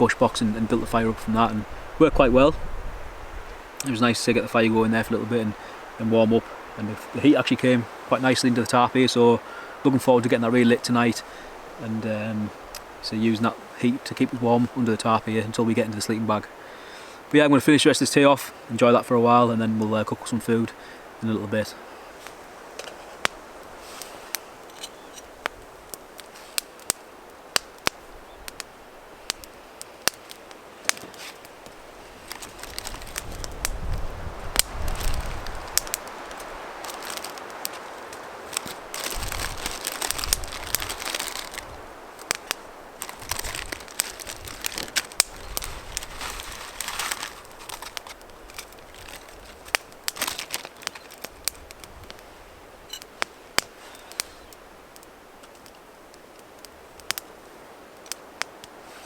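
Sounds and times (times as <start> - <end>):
steady hiss: 0.0 - 59.0
wood fire crackling and popping: 0.0 - 59.0.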